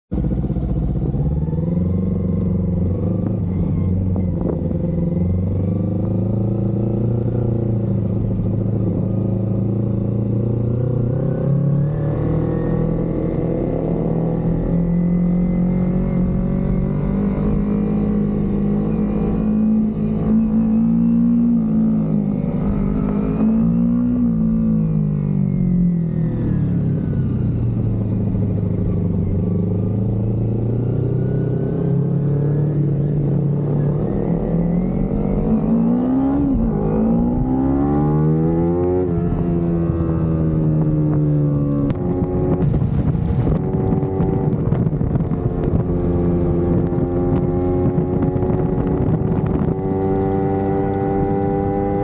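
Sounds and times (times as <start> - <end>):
motorcycle engine running: 0.1 - 52.0.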